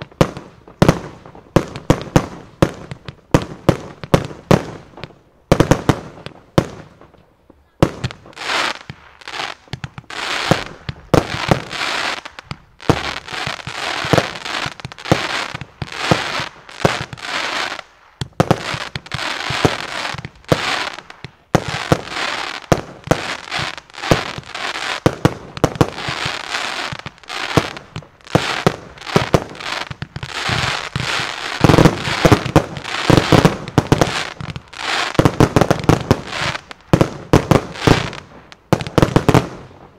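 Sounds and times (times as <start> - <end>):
firework bangs: 7.8 - 39.9
firework crackling: 7.8 - 39.9.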